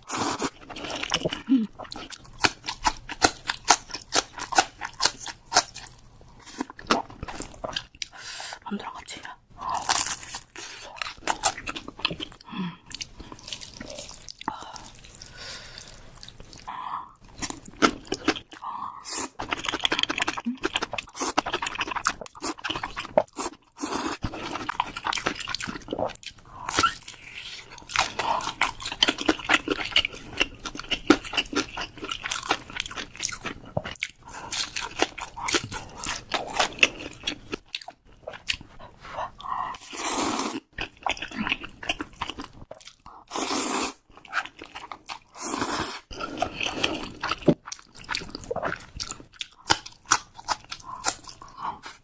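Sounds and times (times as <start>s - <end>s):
chewing and crunching: 0.1s - 8.1s, 9.6s - 40.0s, 40.6s - 43.4s, 44.0s - 52.0s.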